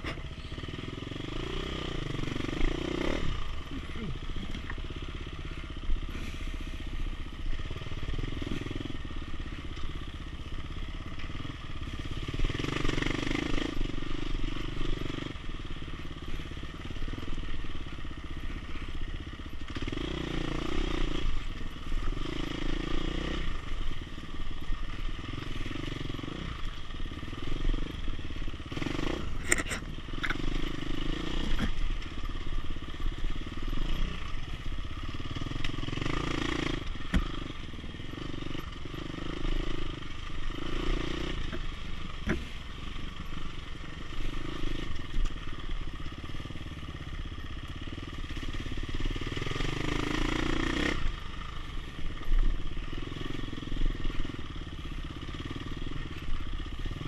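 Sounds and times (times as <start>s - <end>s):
dirt bike engine revving: 0.0s - 9.6s, 11.2s - 45.8s, 48.1s - 57.0s.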